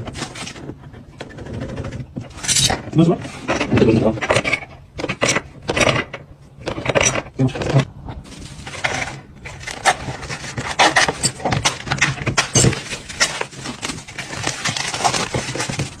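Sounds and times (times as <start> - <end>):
tools knocking and scraping: 0.0 - 7.9, 8.6 - 16.0.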